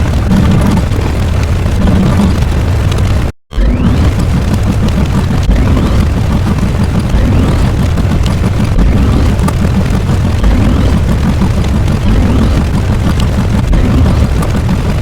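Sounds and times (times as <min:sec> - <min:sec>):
deep explosion rumble: 0:00.0 - 0:15.0.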